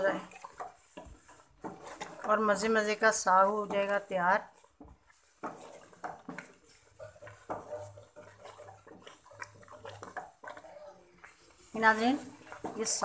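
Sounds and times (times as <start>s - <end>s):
wooden spoon scraping metal pot: 0.0s - 13.0s.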